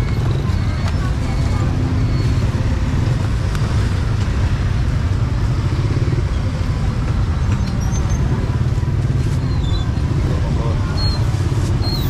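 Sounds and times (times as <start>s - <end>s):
city street traffic rumble: 0.0s - 12.0s
motorbikes and cars passing: 0.0s - 12.0s.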